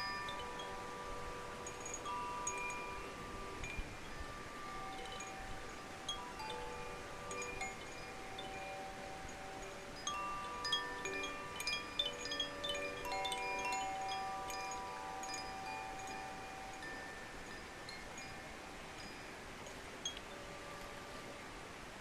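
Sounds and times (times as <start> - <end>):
singing bowls ringing: 0.0 - 21.3.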